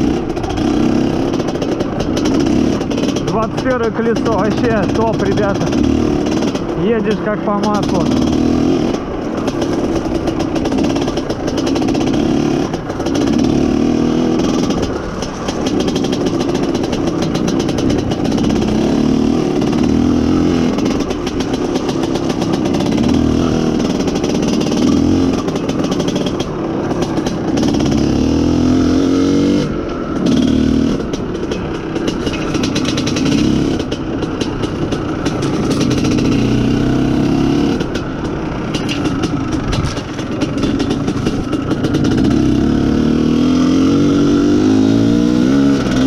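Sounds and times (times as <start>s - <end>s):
motorcycle engine revving: 0.0s - 46.0s
wind and road noise: 0.0s - 46.0s.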